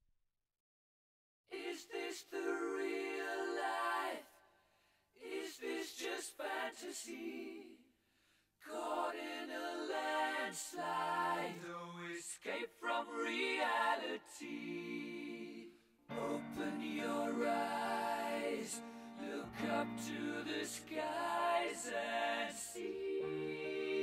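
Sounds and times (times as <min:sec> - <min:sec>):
voices singing: 0:01.5 - 0:04.4, 0:05.2 - 0:07.8, 0:08.6 - 0:24.0.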